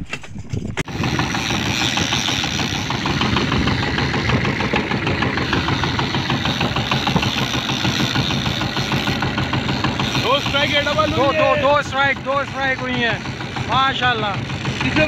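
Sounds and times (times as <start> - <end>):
boat engine knocking: 0.8 - 15.0.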